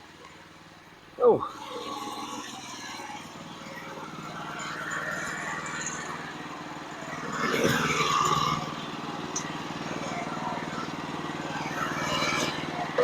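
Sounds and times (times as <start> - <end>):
small gasoline engine running: 0.4 - 13.0.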